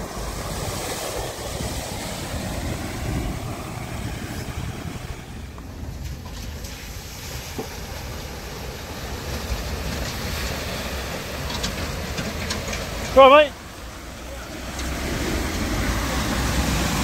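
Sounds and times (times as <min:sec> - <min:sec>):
steady rushing noise: 0:00.0 - 0:17.0
tyres splashing water: 0:00.0 - 0:17.0.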